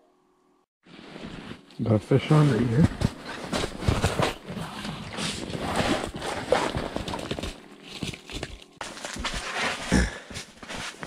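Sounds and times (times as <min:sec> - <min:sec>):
clothing rustling: 0:00.8 - 0:11.0.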